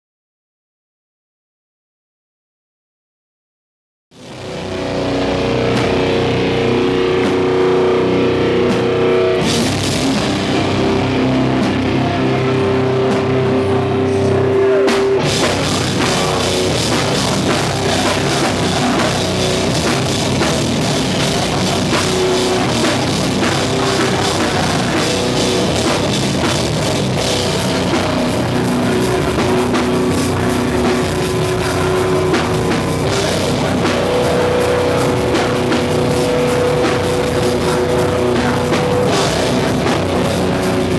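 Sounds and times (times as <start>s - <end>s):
hardcore band playing loud: 4.1s - 40.9s
pounding drums and cymbals: 4.2s - 40.9s
ringing guitar notes: 4.2s - 40.9s.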